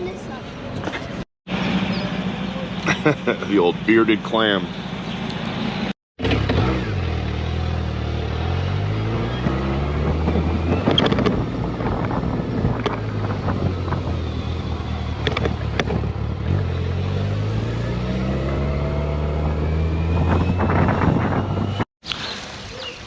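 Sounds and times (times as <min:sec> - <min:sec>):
motorcycle engine accelerating: 0:01.5 - 0:21.9.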